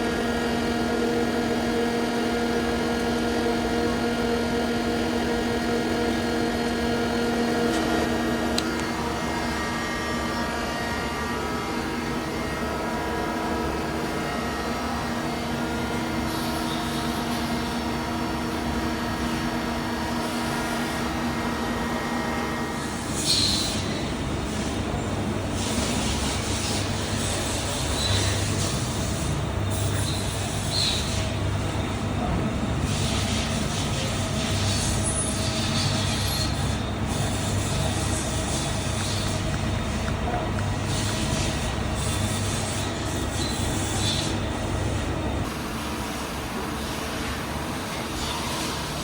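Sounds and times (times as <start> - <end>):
lathe spindle hum: 0.0 - 49.0.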